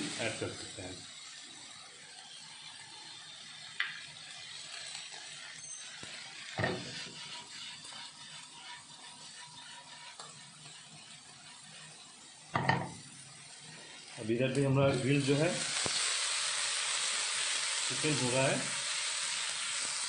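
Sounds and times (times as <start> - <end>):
pasta sizzling in a frying pan: 0.0 - 20.0.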